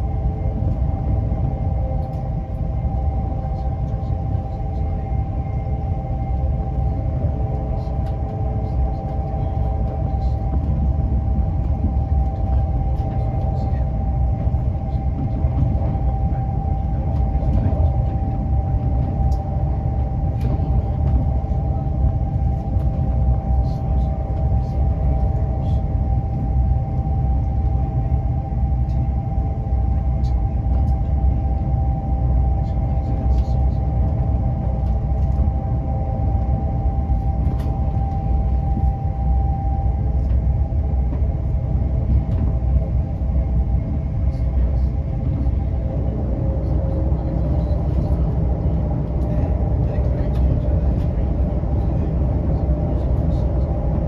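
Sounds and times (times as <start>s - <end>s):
electrical whine: 0.0s - 54.0s.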